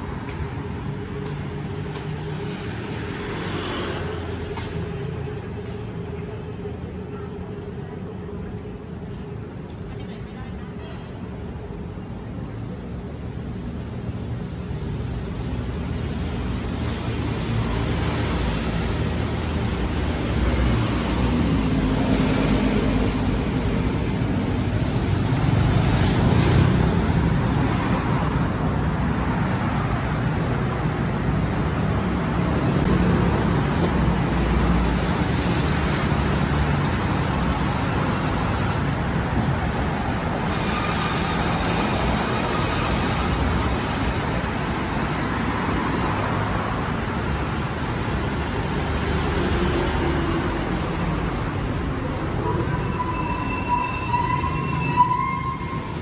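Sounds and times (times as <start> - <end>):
cars and buses passing: 0.0 - 56.0.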